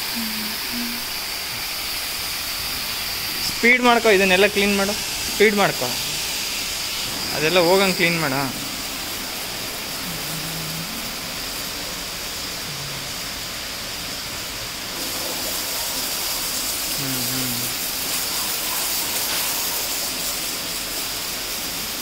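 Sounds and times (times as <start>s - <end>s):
pressure washer spray hissing: 0.0s - 22.0s.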